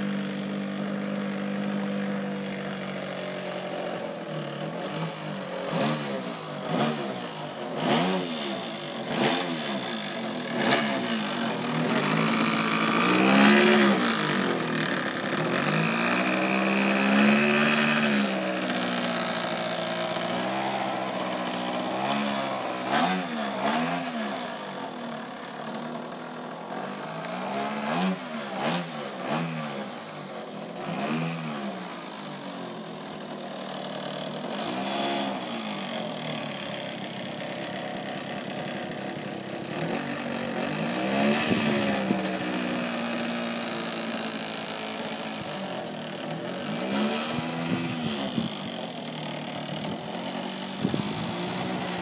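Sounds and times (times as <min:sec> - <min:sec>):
model airplane engine revving: 0:00.0 - 0:52.0.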